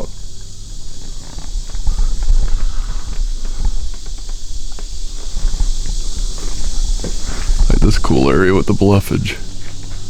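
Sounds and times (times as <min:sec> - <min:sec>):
footsteps on forest trail: 0:00.0 - 0:10.0
insects hissing: 0:00.0 - 0:10.0.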